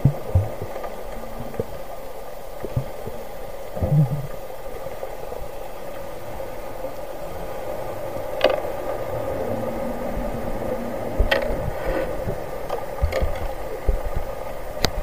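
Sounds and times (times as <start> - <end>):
boat engine hum underwater: 0.0 - 15.0.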